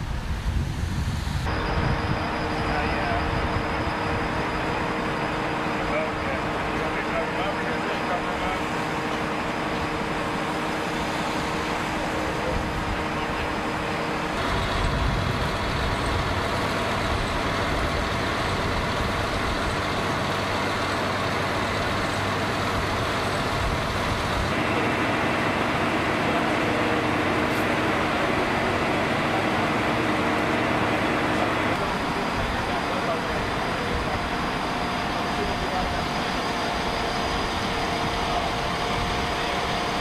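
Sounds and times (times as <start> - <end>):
vehicle engines idling: 1.4 - 40.0.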